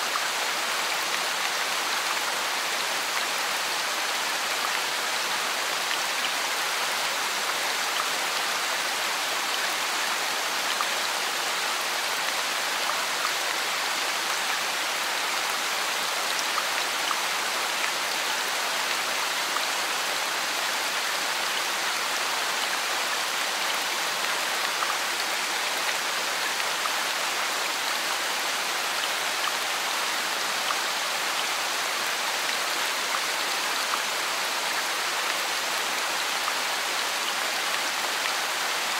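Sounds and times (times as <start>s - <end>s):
heavy rain on pavement: 0.0s - 38.9s.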